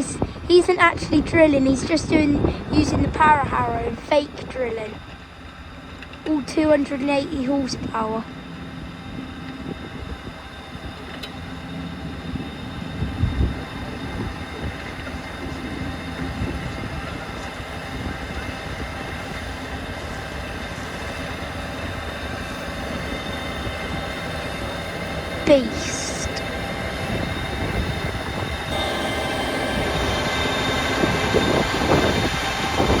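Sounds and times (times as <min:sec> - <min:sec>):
tractor engine drone: 0:00.0 - 0:33.0.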